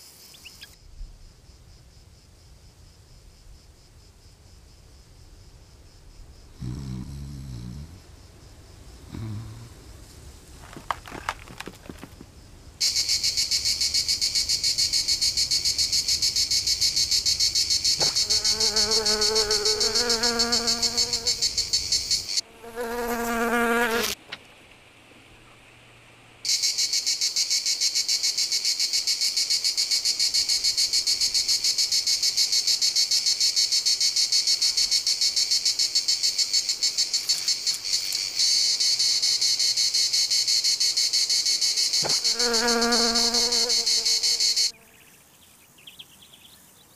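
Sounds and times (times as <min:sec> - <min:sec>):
cricket chirping: 0:00.0 - 0:24.1, 0:26.4 - 0:46.9.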